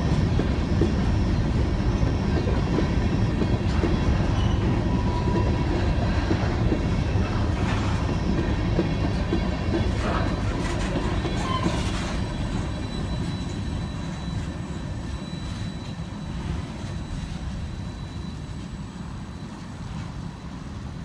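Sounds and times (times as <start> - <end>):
freight train rumbling: 0.0 - 21.0.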